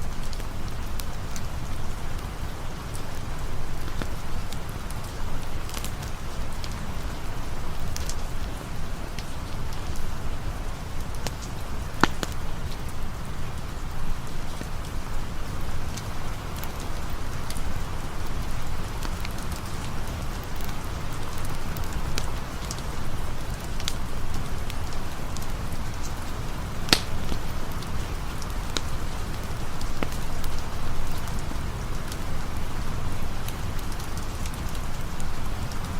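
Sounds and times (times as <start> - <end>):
campfire crackling: 0.0 - 35.9
rain falling: 0.0 - 35.9.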